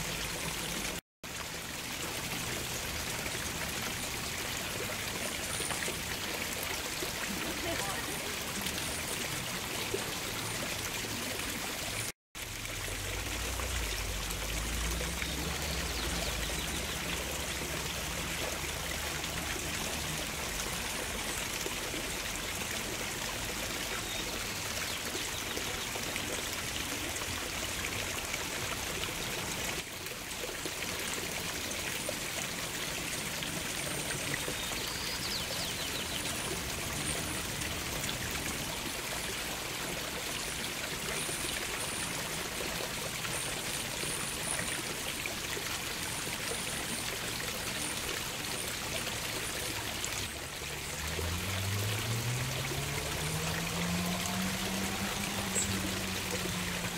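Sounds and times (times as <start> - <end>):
water splashing over rocks: 0.0 - 56.9.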